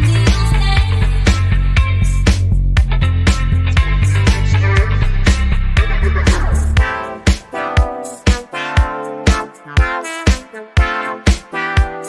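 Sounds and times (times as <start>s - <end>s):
upbeat funk music: 0.0s - 12.0s.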